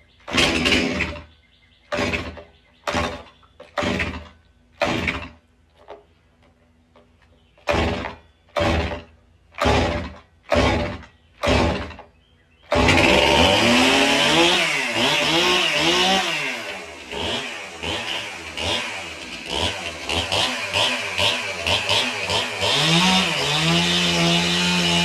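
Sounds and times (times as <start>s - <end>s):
chainsaw recoil starter pulls: 0.2s - 1.3s, 1.9s - 6.1s, 7.6s - 12.1s, 12.7s - 25.0s.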